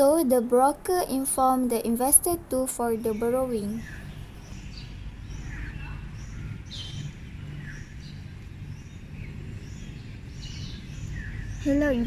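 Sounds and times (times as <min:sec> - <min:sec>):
birds chirping: 0:00.0 - 0:12.0
low background hum: 0:00.0 - 0:12.0.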